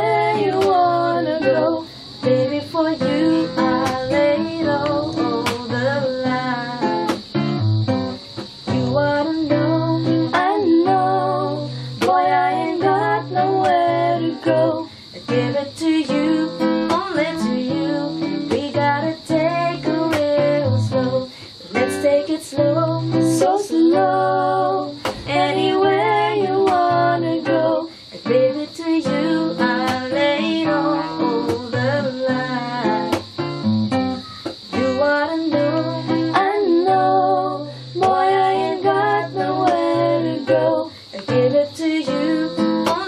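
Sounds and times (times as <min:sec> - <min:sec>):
woman singing: 0:00.0 - 0:07.4, 0:08.3 - 0:33.4, 0:34.4 - 0:43.0
nylon-string guitar: 0:00.0 - 0:43.0.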